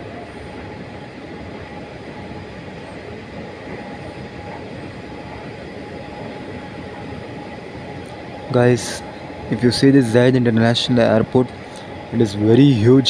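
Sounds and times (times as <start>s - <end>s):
escalator rumbling: 0.0s - 13.0s
faint steady hum: 0.0s - 13.0s.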